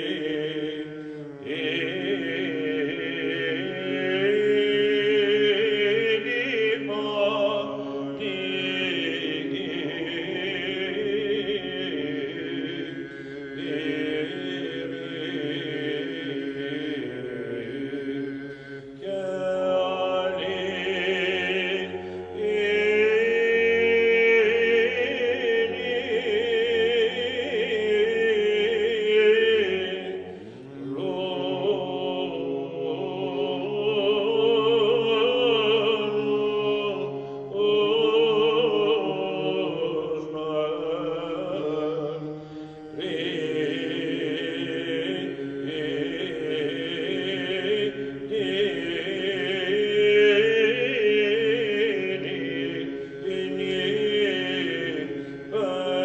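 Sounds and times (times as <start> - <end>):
men chanting with low drone: 0.0 - 56.0.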